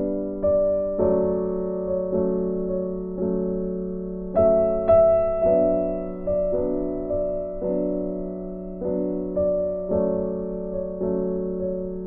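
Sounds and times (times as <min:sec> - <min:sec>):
slow gentle piano: 0:00.0 - 0:12.0.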